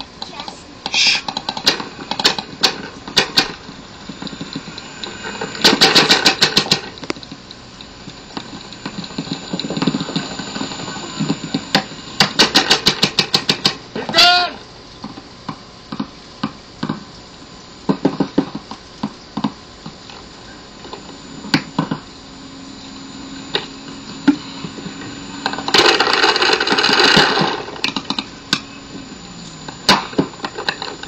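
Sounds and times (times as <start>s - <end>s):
hissing rush: 0.3s - 14.2s, 19.7s - 31.0s.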